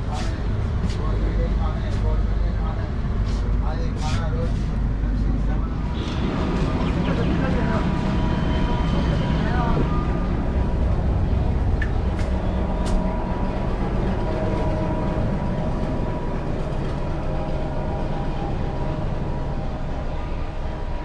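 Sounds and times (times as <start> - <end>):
train rumble and hum: 0.0 - 21.0.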